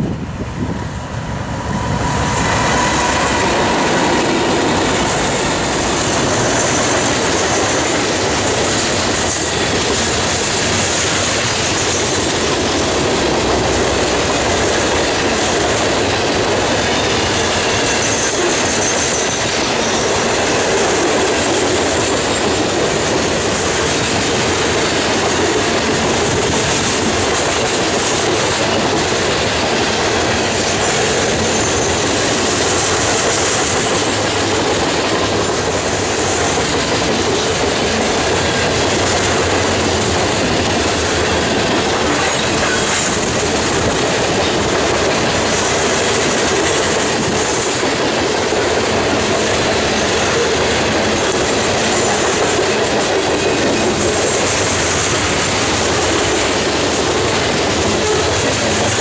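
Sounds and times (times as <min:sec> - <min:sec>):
diesel locomotives passing: 0:00.0 - 0:59.0
freight cars rolling on rails: 0:00.0 - 0:59.0.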